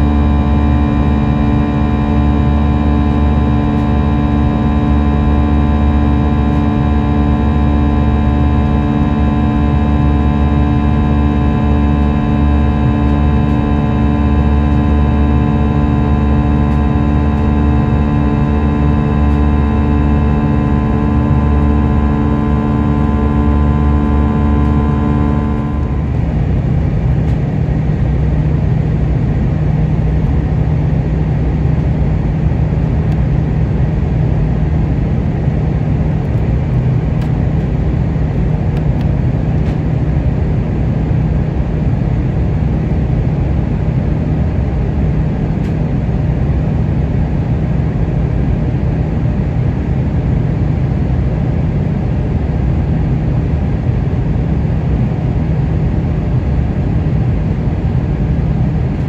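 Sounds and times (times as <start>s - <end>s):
constant low hum: 0.0s - 59.0s
jet engines droning: 0.0s - 59.0s.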